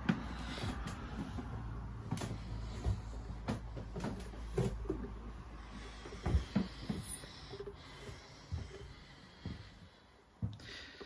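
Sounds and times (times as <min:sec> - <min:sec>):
footsteps on wooden steps: 0:00.0 - 0:11.0.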